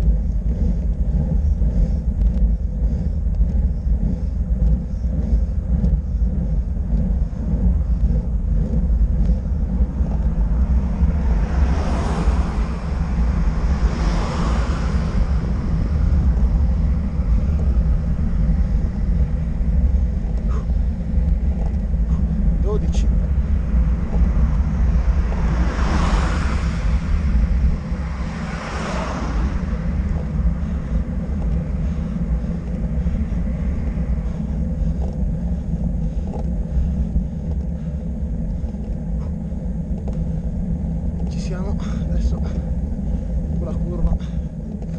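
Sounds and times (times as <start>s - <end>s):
road noise: 0.0s - 44.9s
rush of noise: 0.0s - 44.9s
wind rumble on microphone: 0.0s - 44.9s.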